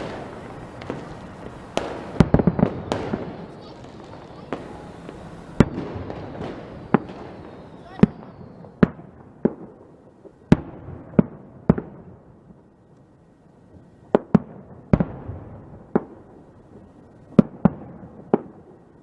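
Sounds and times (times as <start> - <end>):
fireworks bangs: 0.0 - 12.7, 13.7 - 19.0.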